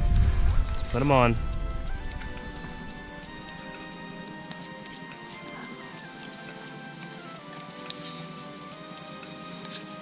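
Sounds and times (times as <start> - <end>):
music with held notes: 0.0 - 10.0.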